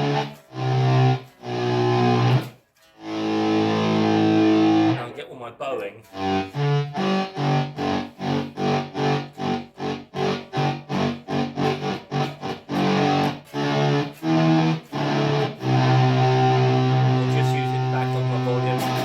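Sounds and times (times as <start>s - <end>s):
fuzz electric guitar swelled notes: 0.0s - 5.1s, 6.0s - 19.0s.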